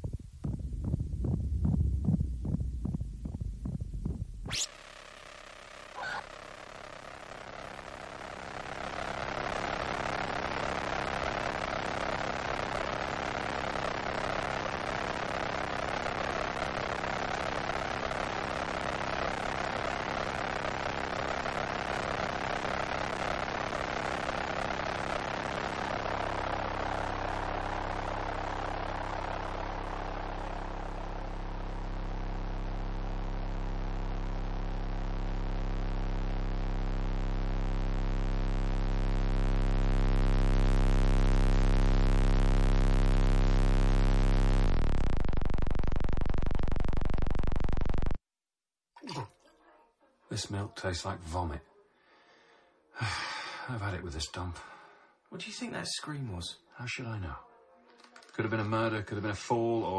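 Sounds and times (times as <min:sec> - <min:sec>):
low electronic hum: 0:00.0 - 0:48.2.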